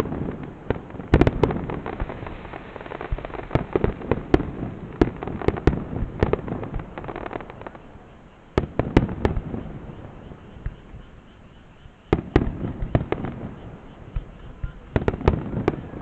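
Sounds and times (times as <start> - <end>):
fireworks bangs: 0.0 - 16.0
fireworks crackling and rumbling: 0.0 - 16.0.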